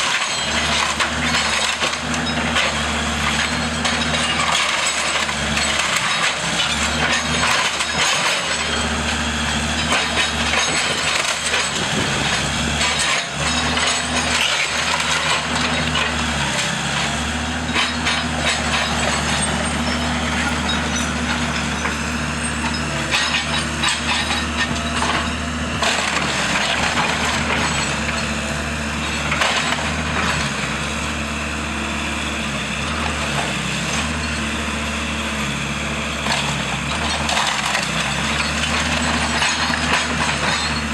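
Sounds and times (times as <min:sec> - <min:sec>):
heavy machine engine running: 0:00.0 - 0:40.9.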